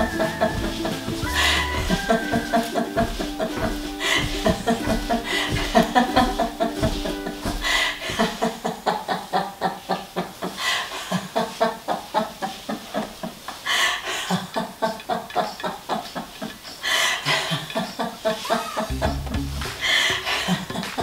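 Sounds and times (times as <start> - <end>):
people laughing: 0.0 - 13.3, 17.2 - 21.0.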